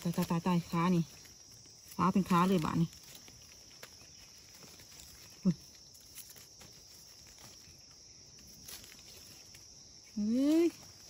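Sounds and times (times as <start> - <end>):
insects chirring: 0.0 - 11.0
leaf litter rustling: 0.0 - 11.0.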